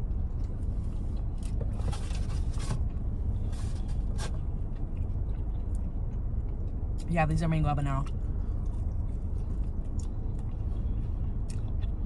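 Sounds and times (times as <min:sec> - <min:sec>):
low car rumble: 0:00.0 - 0:12.0.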